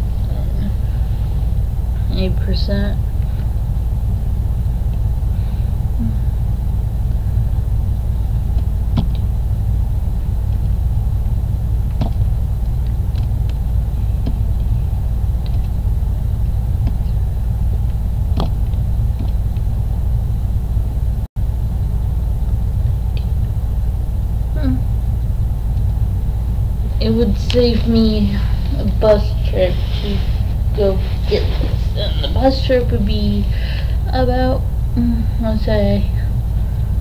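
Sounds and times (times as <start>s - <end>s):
low background rumble: 0.0s - 37.0s.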